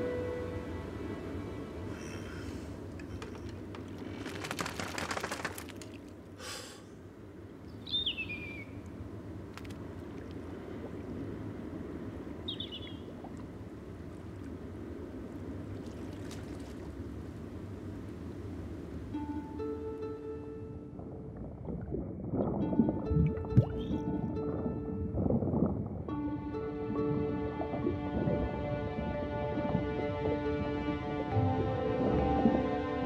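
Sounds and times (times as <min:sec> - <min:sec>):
wind and water: 0:00.0 - 0:33.0.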